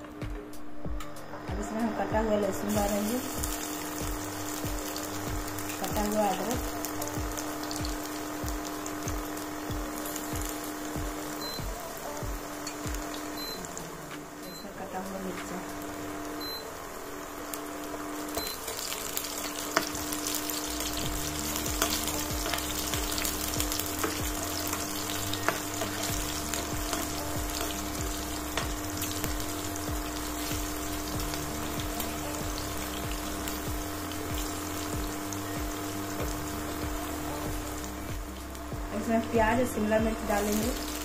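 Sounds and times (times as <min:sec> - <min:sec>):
soft music with pulsing bass: 0:00.0 - 0:41.0
food sizzling in hot oil: 0:01.9 - 0:41.0.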